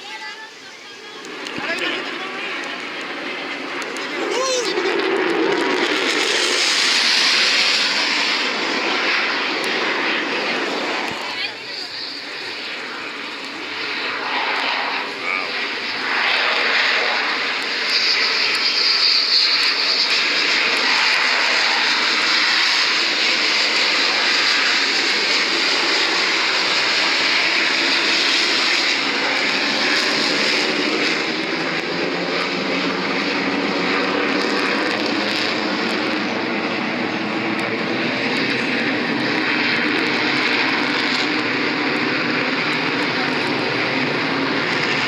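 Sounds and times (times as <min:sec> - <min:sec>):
jet engine roar: 0:00.0 - 0:45.0.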